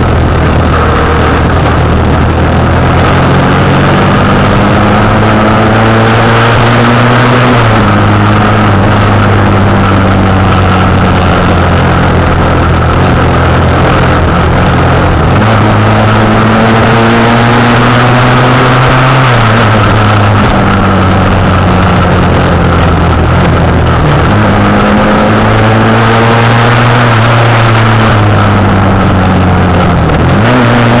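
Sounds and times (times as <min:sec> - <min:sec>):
motorcycle engine revving: 0:00.0 - 0:31.0
wind noise on microphone: 0:00.0 - 0:31.0.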